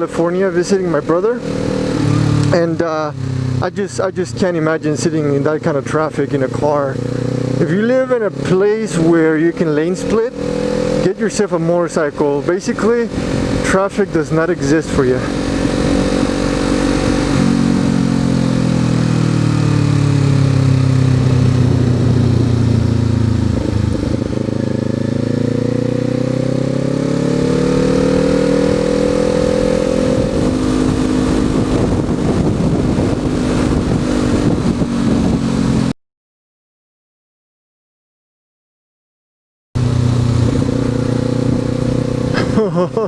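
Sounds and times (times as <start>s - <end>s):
motorcycle engine accelerating: 0.0s - 36.0s, 39.8s - 43.0s.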